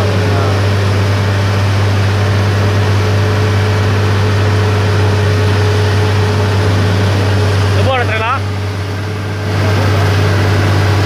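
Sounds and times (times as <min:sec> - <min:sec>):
truck diesel engine labouring: 0:00.0 - 0:11.0.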